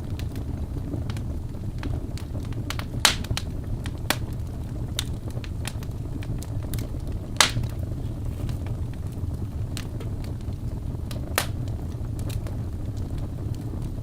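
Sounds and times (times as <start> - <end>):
logs burning with crackles: 0.0 - 14.0.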